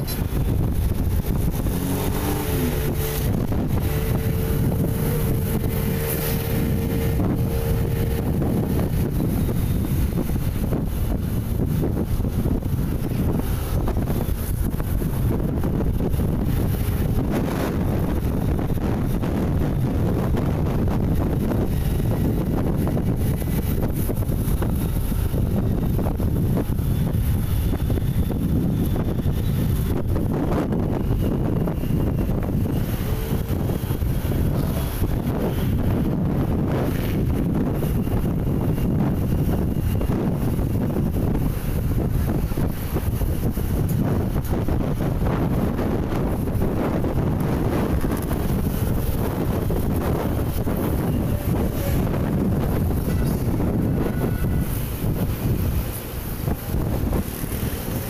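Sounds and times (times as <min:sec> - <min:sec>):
engine hum: 0:00.0 - 0:58.0
vehicle driving on road: 0:00.0 - 0:58.0
wind buffeting microphone: 0:00.0 - 0:58.0.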